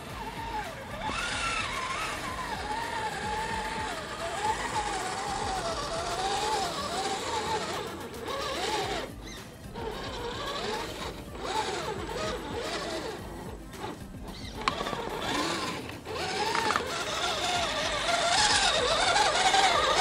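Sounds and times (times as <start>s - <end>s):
gear and tyre noise: 0.0s - 20.0s
toy car electric motor whining: 0.0s - 20.0s.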